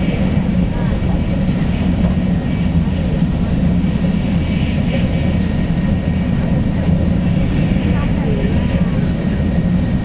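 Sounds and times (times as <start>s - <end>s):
train rumbling inside cabin: 0.0s - 10.0s.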